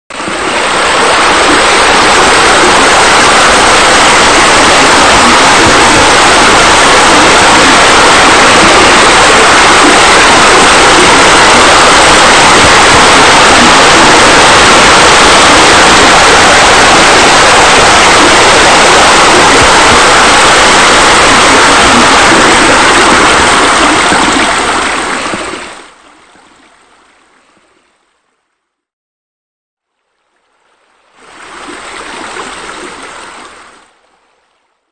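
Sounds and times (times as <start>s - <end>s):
water splashing into pool: 0.1s - 26.0s, 31.2s - 34.0s.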